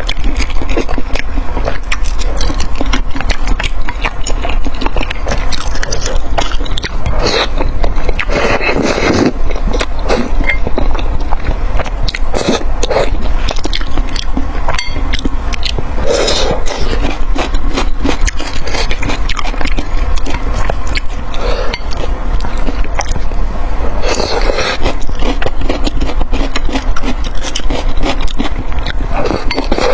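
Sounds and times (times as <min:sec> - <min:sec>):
chewing and mouth sounds: 0:00.0 - 0:23.4, 0:24.0 - 0:29.9
steady low hum: 0:00.0 - 0:29.9.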